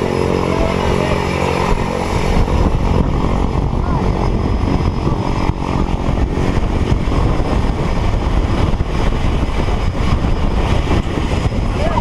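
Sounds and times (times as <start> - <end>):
propeller engine drone: 0.0 - 12.0
wind buffeting microphone: 0.0 - 12.0.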